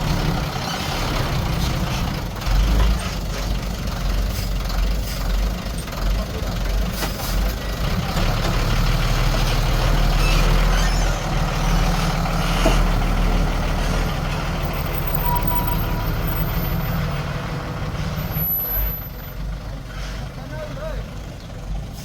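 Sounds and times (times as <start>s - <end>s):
diesel machinery running: 0.0s - 22.0s.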